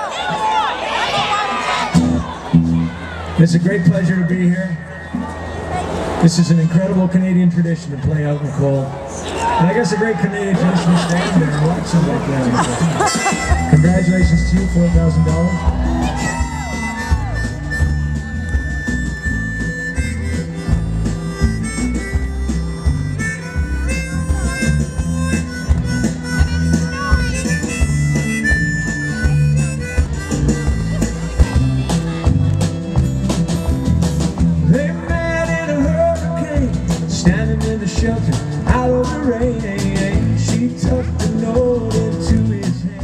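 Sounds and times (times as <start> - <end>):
live band instrumental: 0.0 - 43.0
held lead notes: 1.8 - 7.7, 10.0 - 42.9
bass line: 1.9 - 7.7, 10.5 - 43.0.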